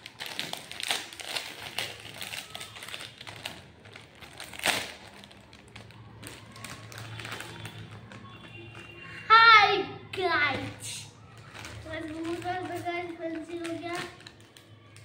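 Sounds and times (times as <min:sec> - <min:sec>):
plastic packaging crinkling: 0:00.0 - 0:09.2, 0:10.5 - 0:15.0.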